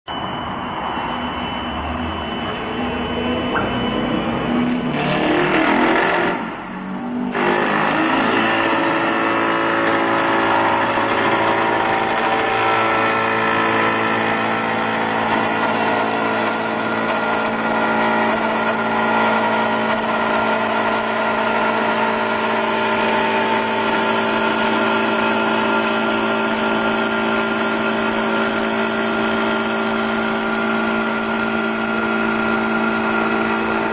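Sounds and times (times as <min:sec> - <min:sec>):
lathe motors whining: 0:00.1 - 0:33.9.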